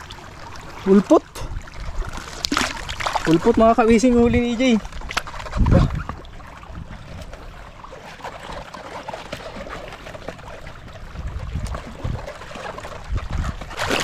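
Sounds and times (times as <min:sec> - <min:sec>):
water sloshing and trickling: 0:00.0 - 0:14.0.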